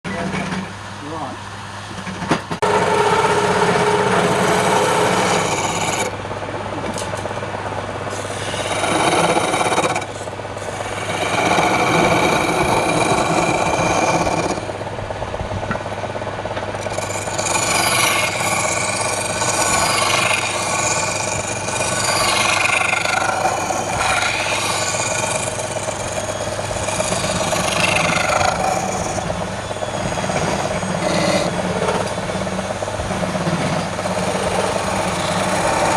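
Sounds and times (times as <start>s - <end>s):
tool scraping spinning wood: 2.6s - 6.2s, 8.0s - 14.9s, 15.6s - 35.9s
lathe motor hum: 2.6s - 35.9s.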